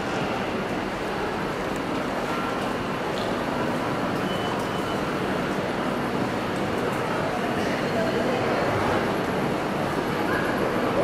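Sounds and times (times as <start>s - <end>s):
station concourse hubbub: 0.0s - 11.0s.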